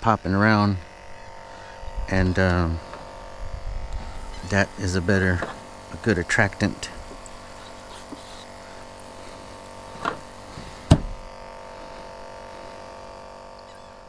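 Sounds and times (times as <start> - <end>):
aerator pump buzzing: 0.0 - 14.0.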